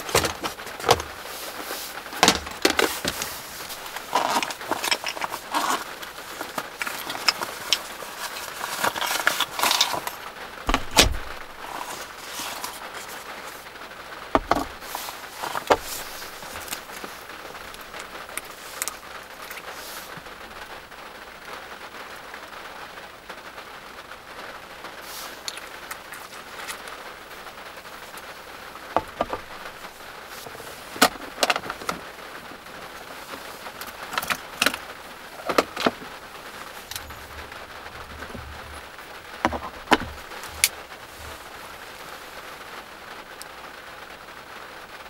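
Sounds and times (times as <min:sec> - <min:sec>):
steady soft hiss: 0:00.0 - 0:45.0.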